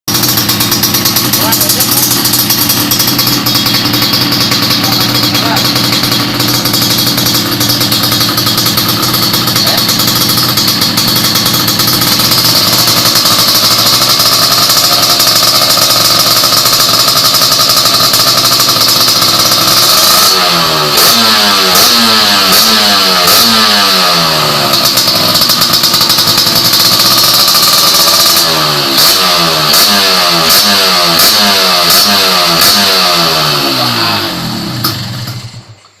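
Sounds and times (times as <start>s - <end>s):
two-stroke motorcycle engine revving: 0.1s - 36.0s.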